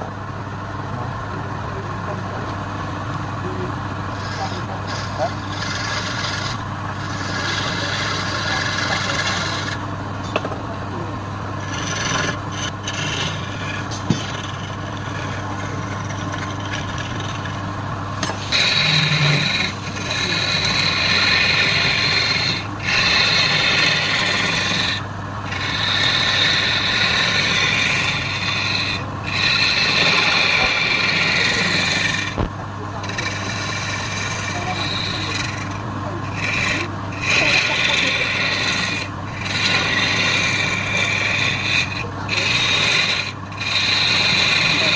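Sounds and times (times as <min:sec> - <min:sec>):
wood lathe humming: 0:00.0 - 0:44.9
tool scraping spinning wood: 0:02.0 - 0:44.9.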